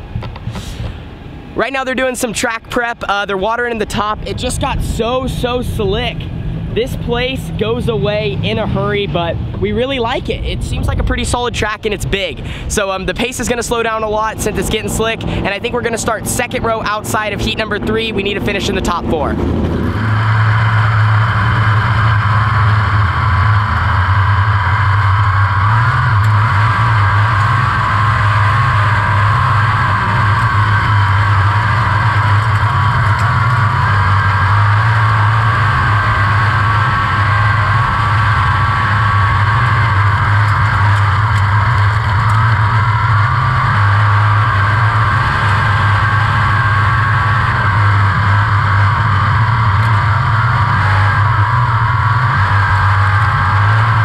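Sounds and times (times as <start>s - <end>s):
race car engine roaring: 0.0s - 54.0s.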